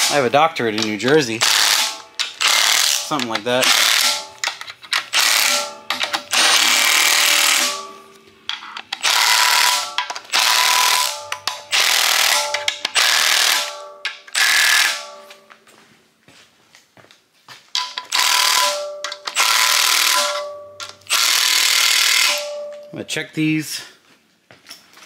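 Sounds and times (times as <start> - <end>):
impact wrench hammering bolts: 0.0 - 15.4, 17.7 - 22.9.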